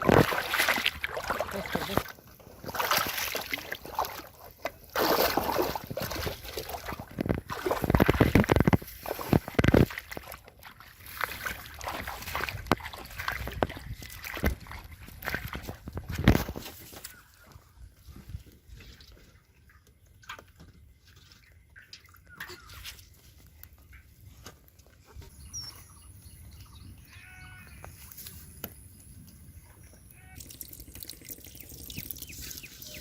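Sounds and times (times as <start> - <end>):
pond water sloshing and splashing: 0.0 - 33.0.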